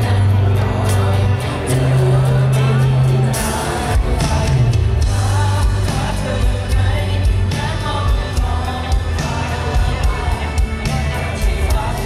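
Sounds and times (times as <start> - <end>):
live rock band playing: 0.0 - 12.0
man singing: 0.0 - 12.0.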